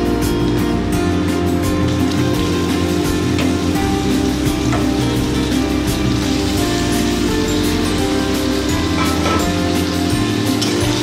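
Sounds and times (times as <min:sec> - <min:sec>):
instrumental music: 0:00.0 - 0:11.0
meat sizzling in oil: 0:00.0 - 0:11.0.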